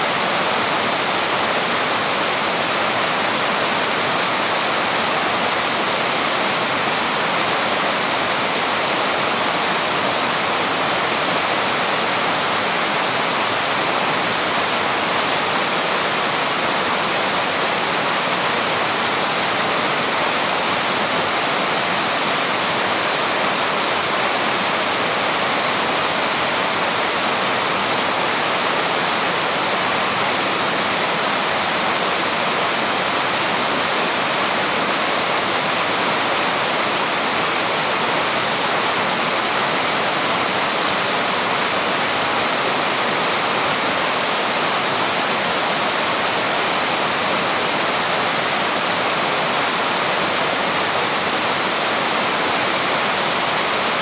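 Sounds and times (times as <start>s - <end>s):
small waterfall rushing: 0.0s - 54.0s.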